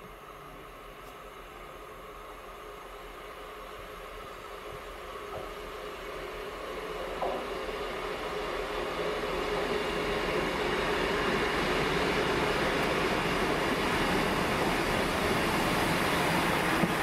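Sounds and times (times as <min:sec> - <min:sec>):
diesel train approaching: 0:00.0 - 0:17.0.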